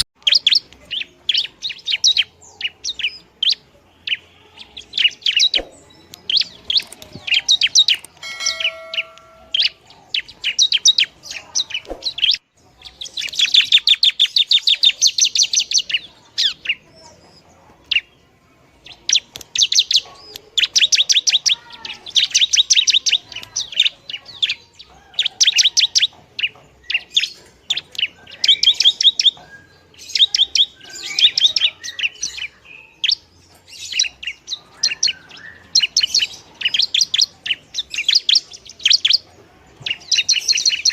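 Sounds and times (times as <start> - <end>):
bird harsh chattering song: 0.0 - 40.9.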